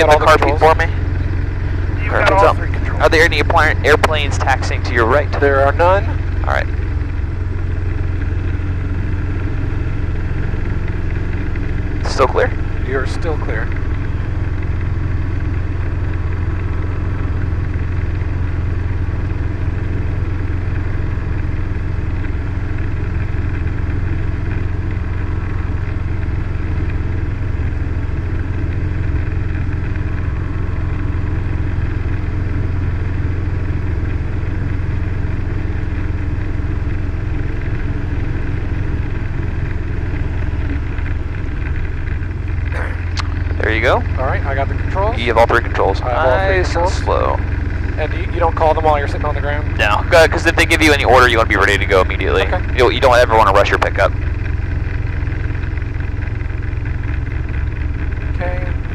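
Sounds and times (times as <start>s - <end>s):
helicopter engine and rotors droning: 0.0s - 58.9s.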